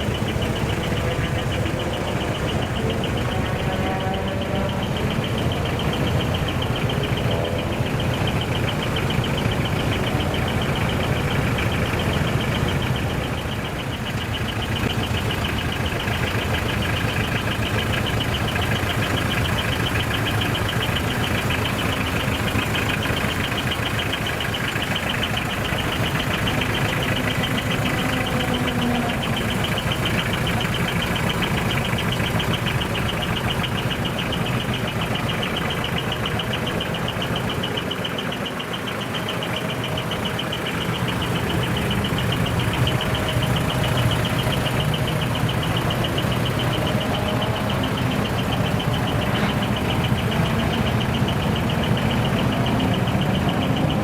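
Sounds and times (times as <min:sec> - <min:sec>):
diesel truck engines running: 0:00.0 - 0:54.0.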